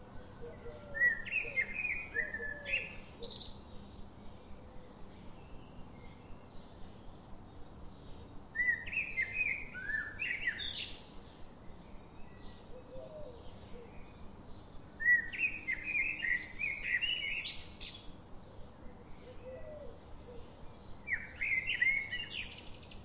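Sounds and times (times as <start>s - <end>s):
songbird rising chirping phrases: 0.0s - 23.0s.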